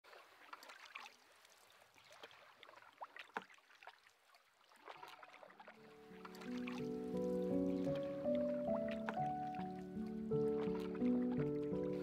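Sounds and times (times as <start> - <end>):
paddle splashes and drips: 0.0 - 12.0.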